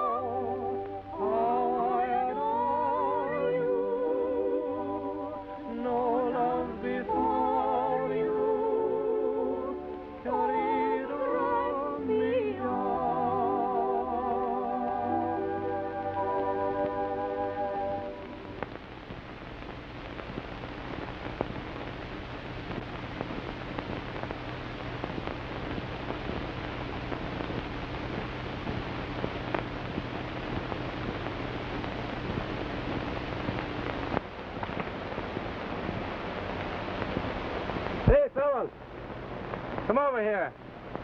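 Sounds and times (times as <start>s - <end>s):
low hum: 0.0s - 38.0s
film soundtrack hiss and crackles: 0.0s - 41.0s.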